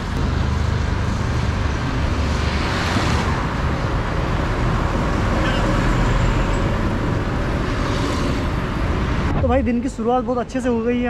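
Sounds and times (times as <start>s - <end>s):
highway traffic rushing past: 0.0s - 11.0s.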